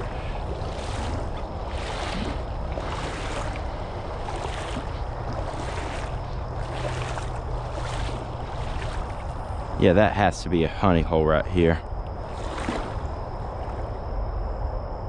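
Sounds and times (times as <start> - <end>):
wading through shallow water: 0.0 - 14.7
wind rumble on microphone: 0.0 - 15.0.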